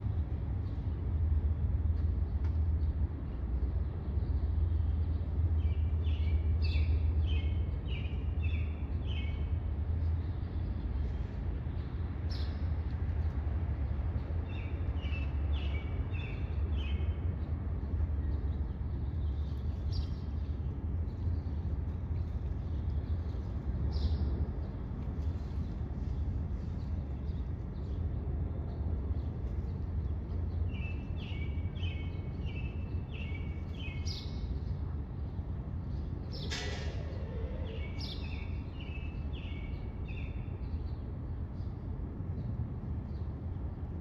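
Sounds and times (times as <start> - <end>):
steady low rumble: 0.0 - 44.0.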